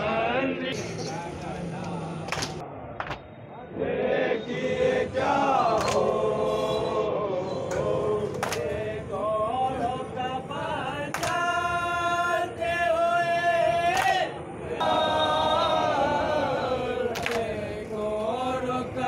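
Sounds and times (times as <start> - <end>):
men chanting a lament: 0.0 - 2.9, 3.5 - 19.0.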